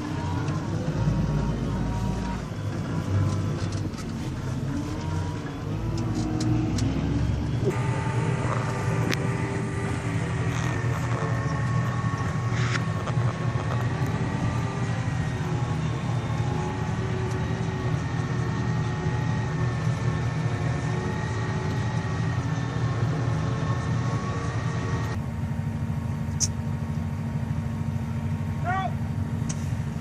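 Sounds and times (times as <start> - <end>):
farm machinery engine running: 0.0 - 30.0
low steady hum: 0.0 - 30.0.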